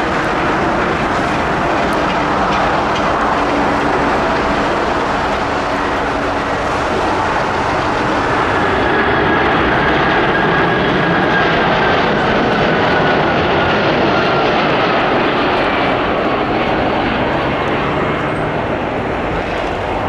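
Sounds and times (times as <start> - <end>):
jet engines roaring: 0.0 - 20.0
jet fan whine: 0.0 - 20.0
jet plane climbing out: 0.0 - 20.0.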